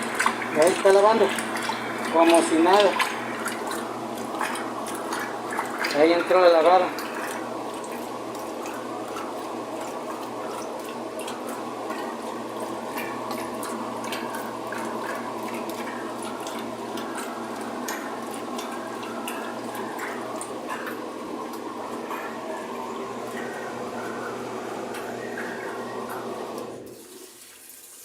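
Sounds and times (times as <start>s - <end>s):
washing machine motor hum: 0.0s - 28.0s
water churning and sloshing: 0.0s - 28.0s.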